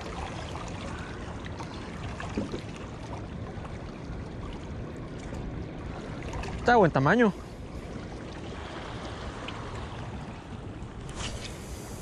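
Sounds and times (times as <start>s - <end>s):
sea water lapping against rocks: 0.0s - 12.0s.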